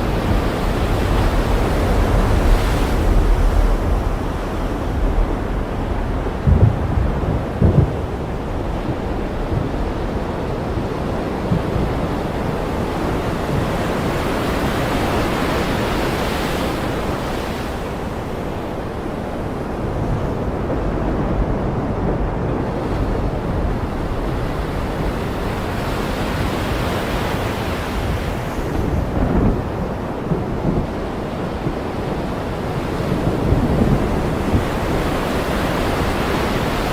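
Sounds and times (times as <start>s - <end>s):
ocean waves washing: 0.0s - 36.9s
wind: 0.0s - 36.9s.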